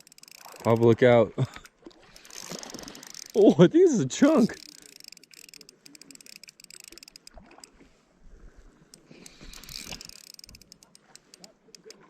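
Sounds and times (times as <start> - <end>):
spinning reel clicking: 0.0 - 3.4, 4.2 - 7.7, 8.9 - 12.0.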